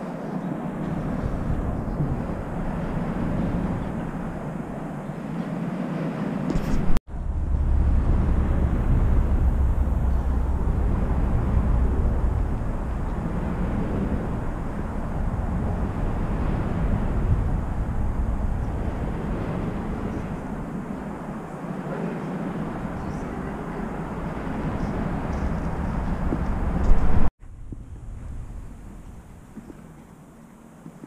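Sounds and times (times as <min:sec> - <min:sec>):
outdoor background rumble: 0:00.0 - 0:31.0.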